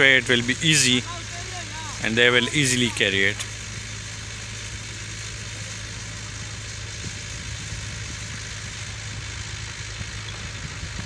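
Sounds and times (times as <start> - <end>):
constant hiss: 0.0 - 11.0
engine running steadily: 0.0 - 11.0.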